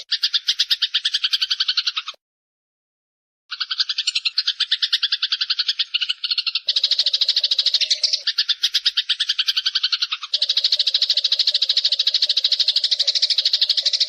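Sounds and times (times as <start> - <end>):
sparrows chattering: 0.0 - 2.2, 3.5 - 14.0.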